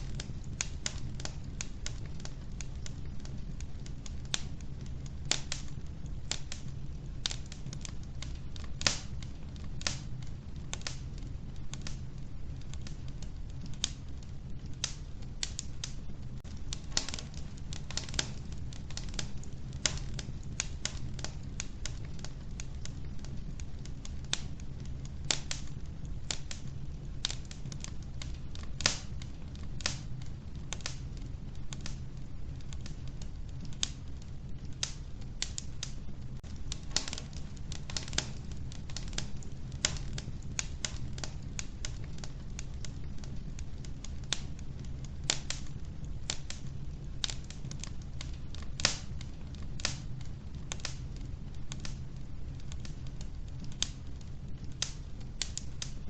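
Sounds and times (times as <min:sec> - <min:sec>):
wood fire crackling in a stove: 0:00.0 - 0:56.0.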